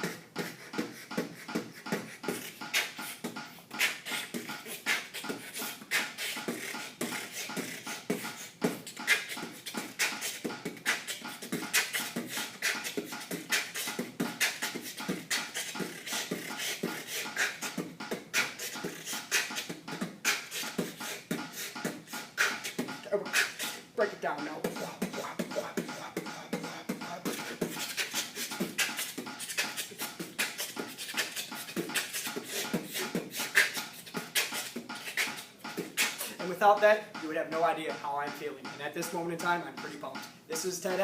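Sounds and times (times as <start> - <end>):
person beatboxing: 0.0 - 41.0.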